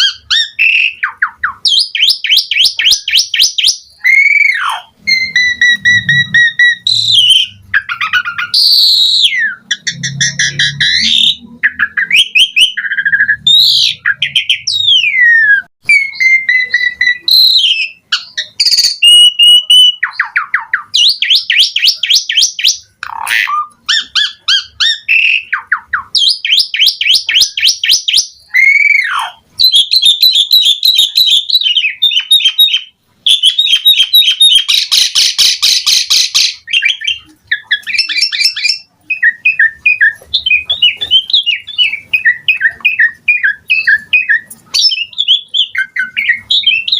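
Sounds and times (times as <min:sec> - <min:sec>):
starling singing varied song: 0:00.0 - 0:46.9.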